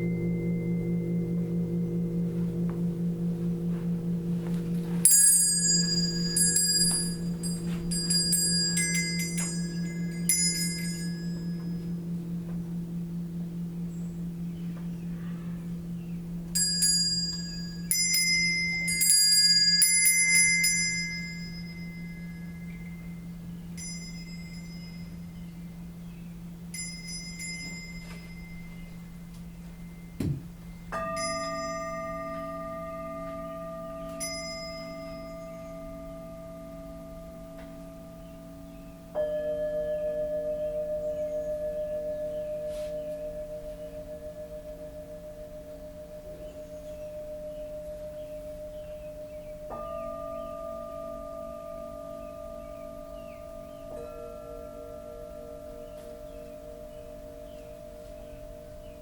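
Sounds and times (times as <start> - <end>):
high-pitched chimes ringing: 0.0 - 12.2, 13.6 - 59.0
higher bowl tone struck: 0.0 - 59.0
singing bowl humming: 0.0 - 59.0.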